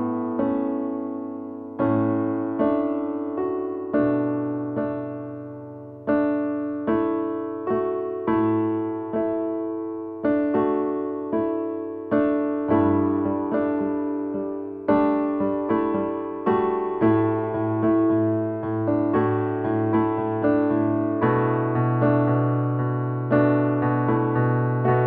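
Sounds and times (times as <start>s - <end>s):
slow gentle solo piano: 0.0s - 25.0s.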